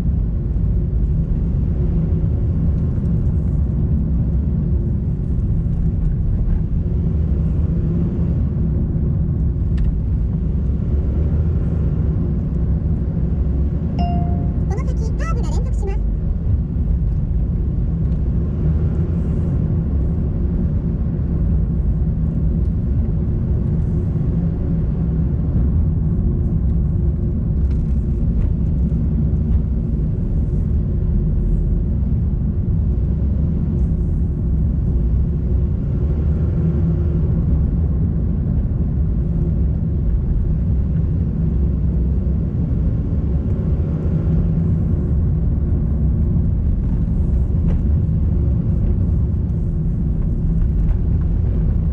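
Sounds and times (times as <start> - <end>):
car engine and road noise rumble: 0.0 - 51.9.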